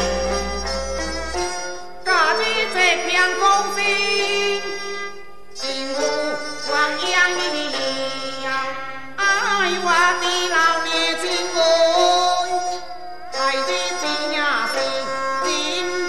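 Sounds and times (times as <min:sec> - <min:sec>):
traditional ensemble playing opera music: 0:00.0 - 0:16.0.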